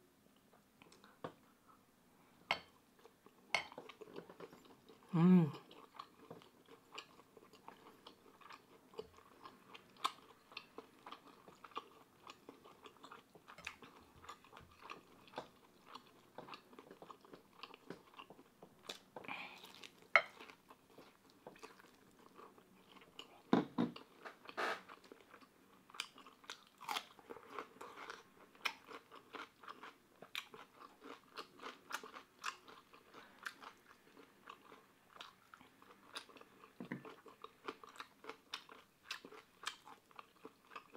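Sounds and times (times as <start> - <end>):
chewing and crunching: 3.0 - 40.9.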